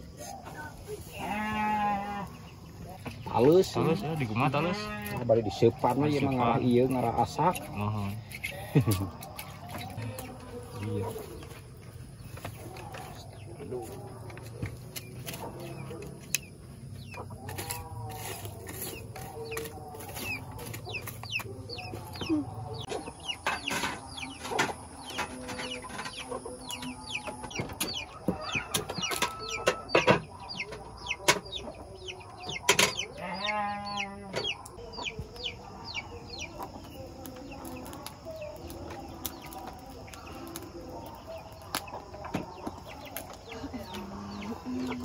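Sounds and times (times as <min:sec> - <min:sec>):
chickens clucking: 0:00.0 - 0:01.5, 0:02.2 - 0:45.0
chicks peeping: 0:02.3 - 0:45.0.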